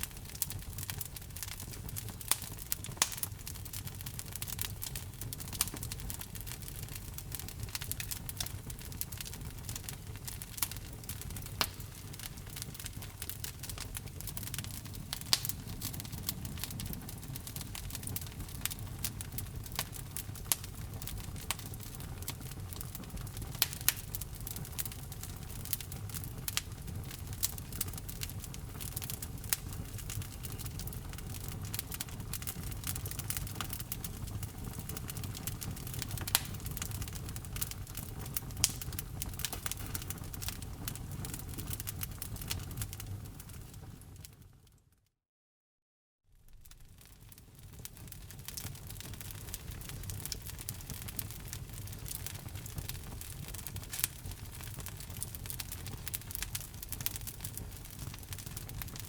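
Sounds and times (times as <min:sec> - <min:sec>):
low rumble of flames: 0:00.0 - 0:44.6, 0:46.4 - 0:59.0
wood fire crackling and popping: 0:00.0 - 0:44.6, 0:46.4 - 0:59.0.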